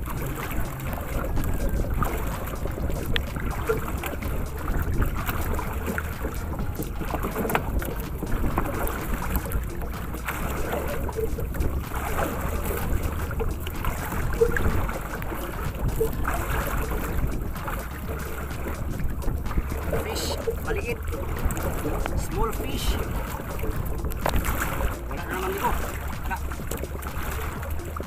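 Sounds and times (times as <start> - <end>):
water lapping against boat: 0.0 - 28.0
wind buffeting microphone: 0.0 - 28.0.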